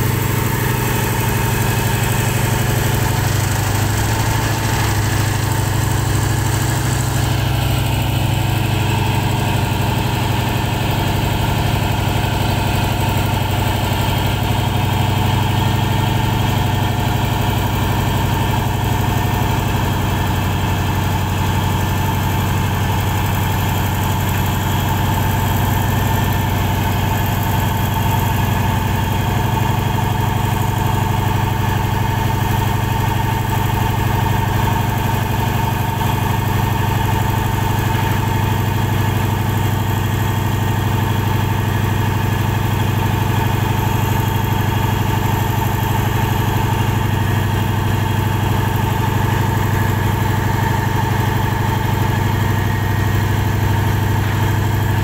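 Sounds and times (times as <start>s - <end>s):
engine deep steady hum: 0.0s - 55.0s.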